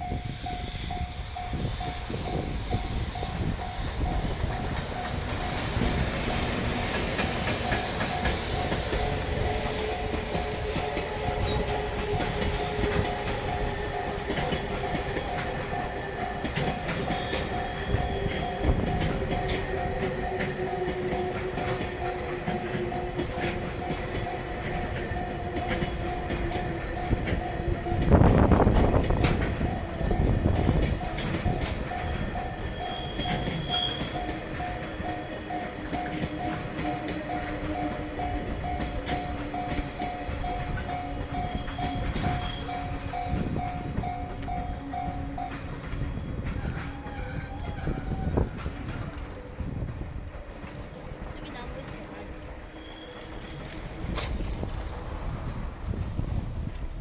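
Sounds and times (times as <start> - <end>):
train wheels clattering over rail joints: 0.1 - 57.0.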